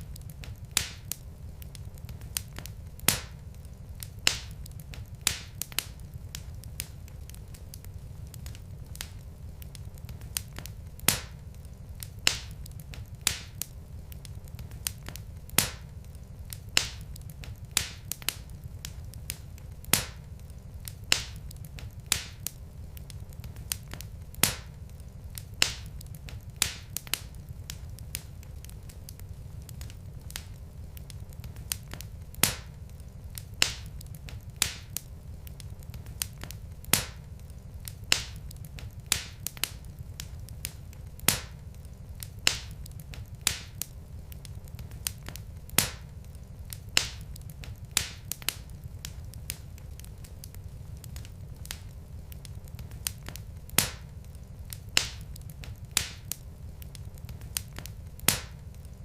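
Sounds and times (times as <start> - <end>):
logs popping in fire: 0.0 - 59.0
low rumble of burning fire: 0.0 - 59.0.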